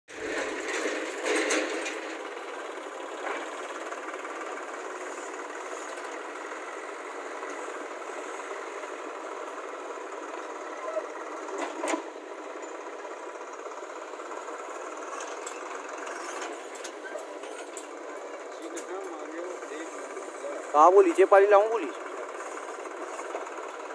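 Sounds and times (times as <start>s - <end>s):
diesel tractor engine chattering: 0.1s - 23.9s.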